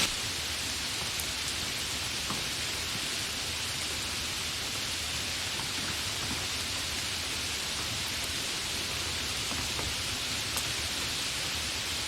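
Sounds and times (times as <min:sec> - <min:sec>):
steady heavy rain: 0:00.0 - 0:12.0.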